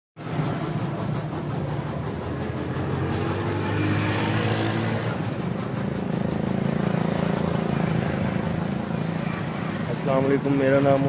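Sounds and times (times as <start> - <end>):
vehicle engine running: 0.2 - 11.0.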